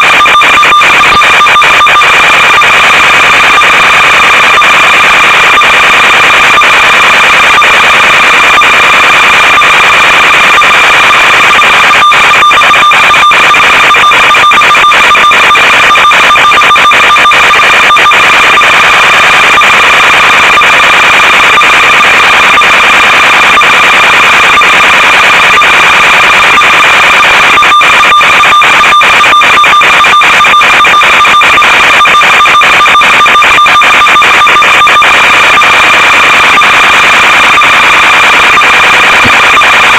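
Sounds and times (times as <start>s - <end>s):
electronic buzz and static: 0.0s - 39.9s.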